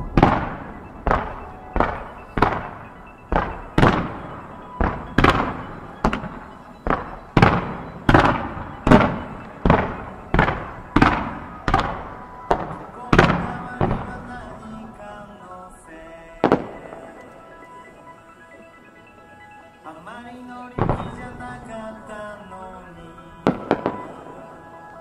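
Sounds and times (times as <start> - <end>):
fireworks bangs echoing: 0.0 - 19.6, 20.8 - 25.0.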